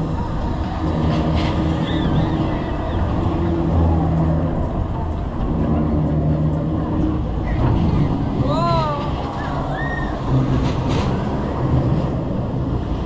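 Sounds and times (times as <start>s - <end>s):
fairground ride rumbling: 0.0s - 13.0s
low machinery hum: 0.0s - 13.0s.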